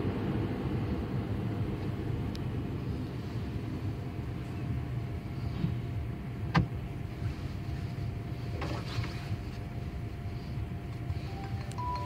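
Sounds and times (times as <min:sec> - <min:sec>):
car rumbling inside cabin: 0:00.0 - 0:12.0.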